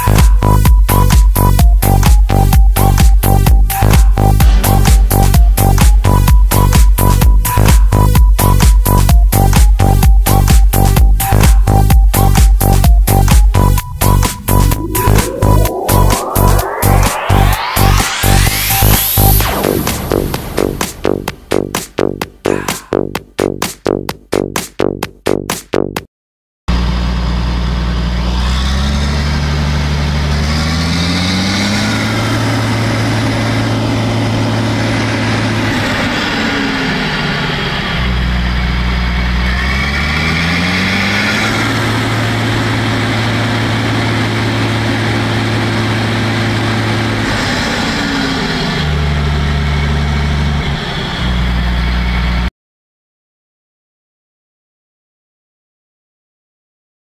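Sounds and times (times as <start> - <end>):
diesel engine revving: 0.0 - 23.0, 26.7 - 52.5.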